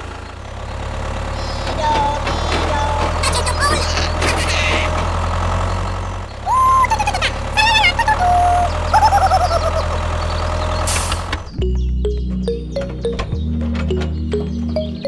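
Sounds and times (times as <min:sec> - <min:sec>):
tractor engine droning: 0:00.0 - 0:15.0.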